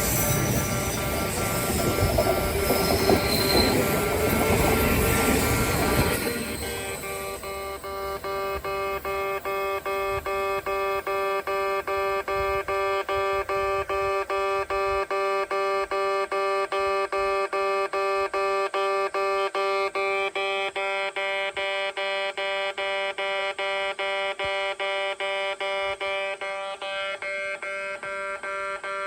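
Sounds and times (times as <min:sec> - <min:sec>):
electronic crossing alarm tone: 0:00.0 - 0:29.0.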